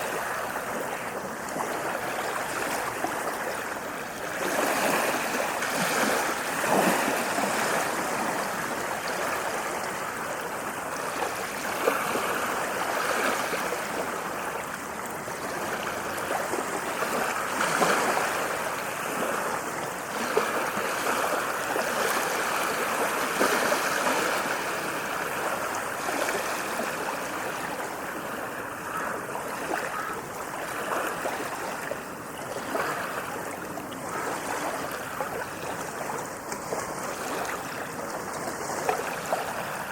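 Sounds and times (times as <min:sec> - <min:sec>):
waves washing onto beach: 0:00.0 - 0:39.9.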